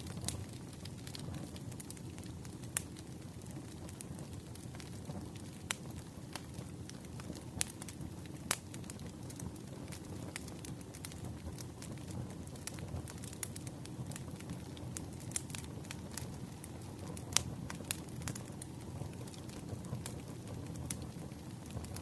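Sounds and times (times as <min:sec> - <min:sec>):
low rumble of flames: 0:00.0 - 0:22.0
wood crackling and popping: 0:00.0 - 0:22.0.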